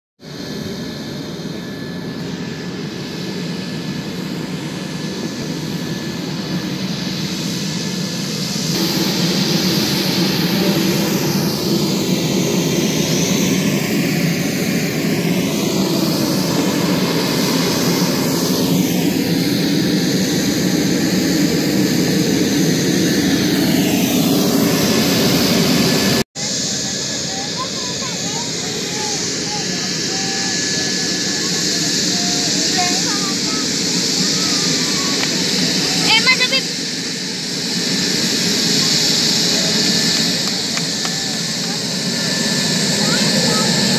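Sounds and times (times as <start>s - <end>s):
turboprop engines running: 0.2s - 43.9s.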